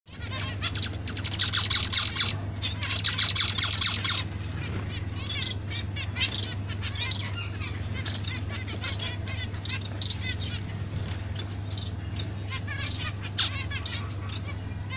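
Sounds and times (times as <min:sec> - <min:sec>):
finches chattering: 0:00.1 - 0:14.9
steady low hum: 0:00.1 - 0:14.9.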